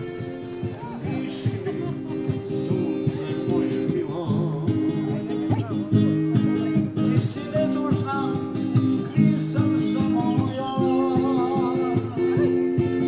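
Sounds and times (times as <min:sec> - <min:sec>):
acoustic guitar chords: 0:00.0 - 0:13.0
person singing: 0:00.7 - 0:13.0.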